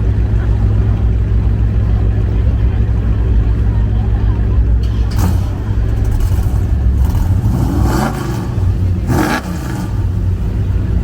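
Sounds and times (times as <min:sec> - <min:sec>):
car engine rumbling and revving: 0:00.0 - 0:11.0.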